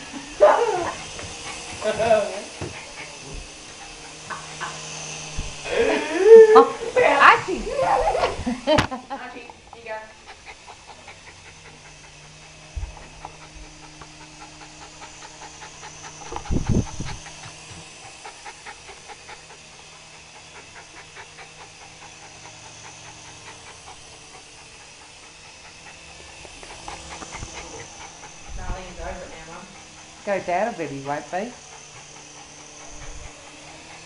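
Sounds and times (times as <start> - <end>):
dog panting: 0.0 - 34.0.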